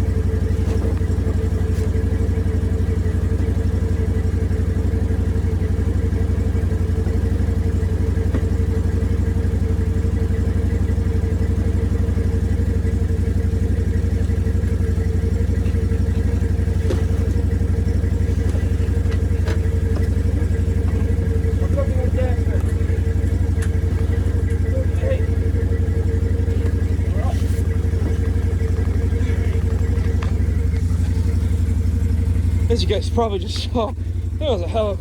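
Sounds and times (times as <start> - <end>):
atv engine idling: 0.0 - 35.0.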